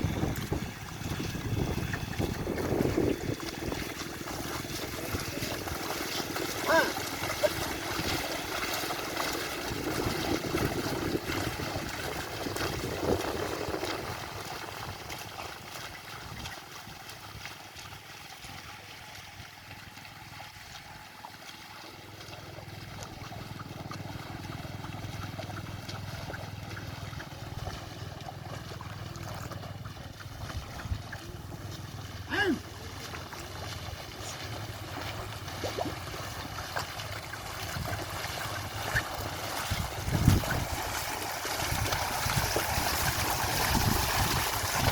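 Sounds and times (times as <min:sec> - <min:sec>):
mud and water sloshing: 0:00.0 - 0:44.9.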